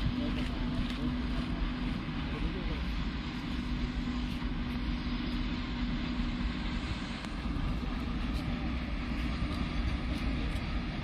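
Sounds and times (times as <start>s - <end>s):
low steady hum: 0.0s - 11.0s
vehicle rumble and hiss: 0.0s - 11.0s.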